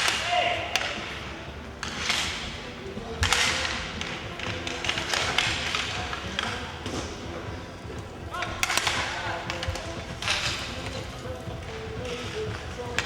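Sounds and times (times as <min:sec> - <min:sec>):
hockey sticks and puck clacking: 0:00.0 - 0:13.0
murmur of crowd voices: 0:00.0 - 0:13.0.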